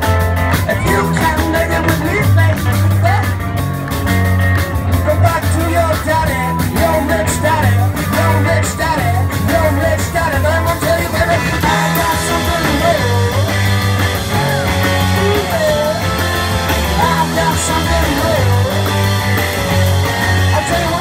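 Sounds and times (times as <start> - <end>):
drums: 0.0 - 21.0
electric guitars: 0.0 - 21.0
keyboard: 0.0 - 21.0
person singing: 0.5 - 3.4, 5.0 - 21.0.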